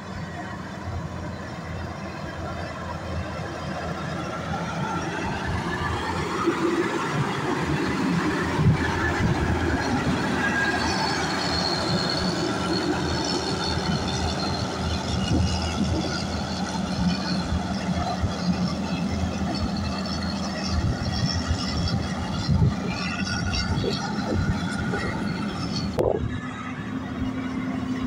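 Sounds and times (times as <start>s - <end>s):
grader diesel engine under load: 0.0s - 28.0s
high metallic squeal: 0.1s - 28.0s.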